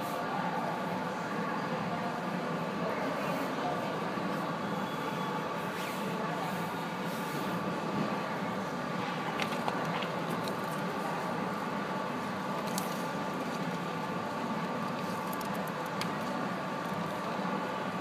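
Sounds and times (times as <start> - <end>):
steady hum and hiss: 0.0 - 18.0.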